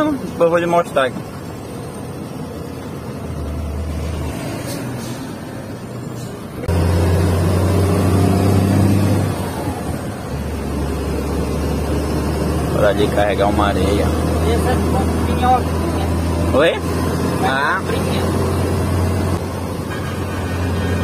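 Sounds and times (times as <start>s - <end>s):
truck diesel engine from cab: 0.0s - 21.0s.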